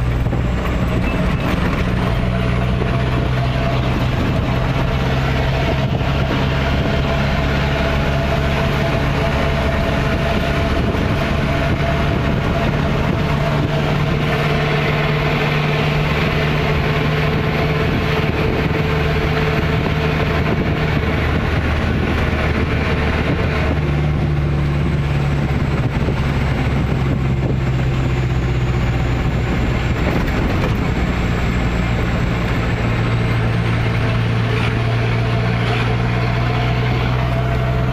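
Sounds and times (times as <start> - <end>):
truck engine exhaust drone: 0.0 - 37.9.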